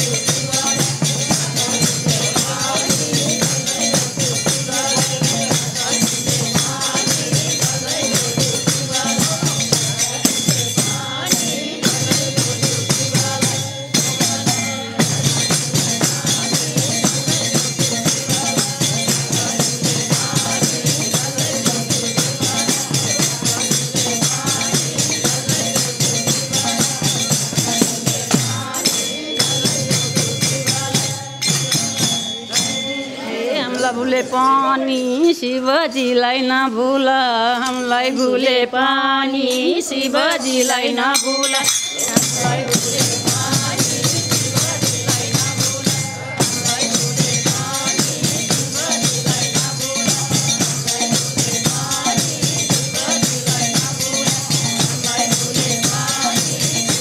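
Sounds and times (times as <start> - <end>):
jingling percussion rhythm: 0.0 - 57.0.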